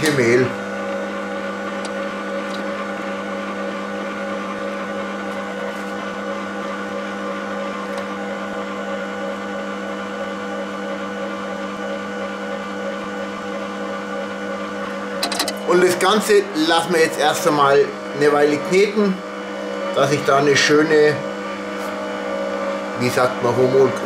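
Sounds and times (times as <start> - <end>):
stand mixer motor humming: 0.0 - 24.0.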